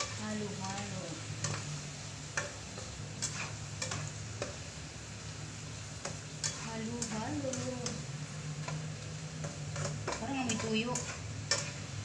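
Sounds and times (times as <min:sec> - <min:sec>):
food sizzling: 0:00.0 - 0:12.0
spatula stirring food in a wok: 0:00.0 - 0:12.0.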